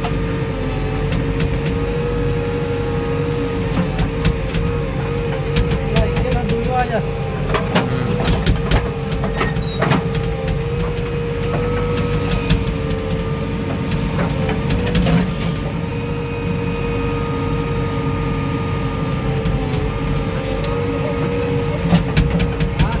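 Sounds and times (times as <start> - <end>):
diesel engine running: 0.0 - 23.0
engine whine: 0.0 - 23.0.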